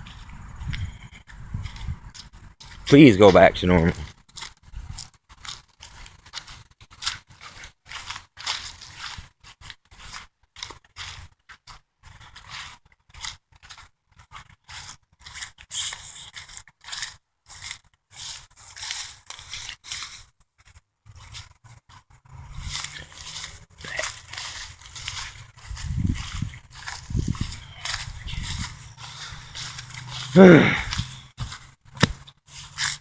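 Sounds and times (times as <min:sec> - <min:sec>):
scratchy rustling and scraping: 0:03.9 - 0:33.0.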